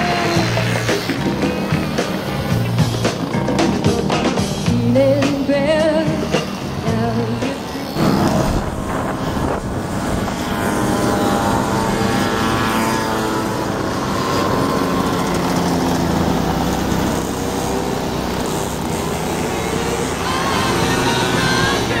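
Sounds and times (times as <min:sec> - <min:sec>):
moped engines buzzing: 0:00.0 - 0:22.0.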